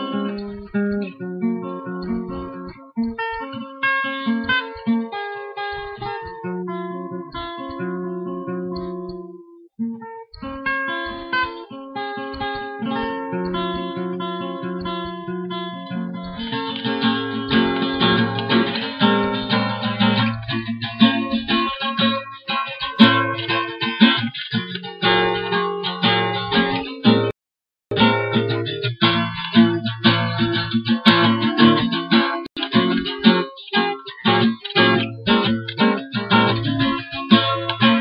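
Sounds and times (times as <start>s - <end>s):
acoustic guitar playing: 0.0s - 38.0s.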